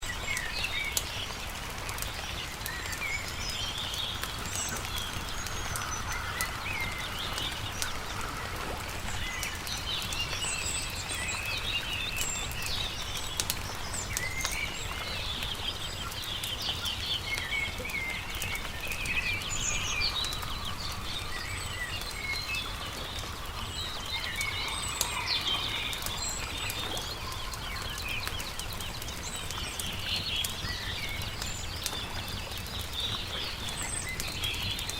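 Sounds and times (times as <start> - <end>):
campfire crackling: 0.0 - 34.9
songbirds chirping and singing: 0.0 - 34.9.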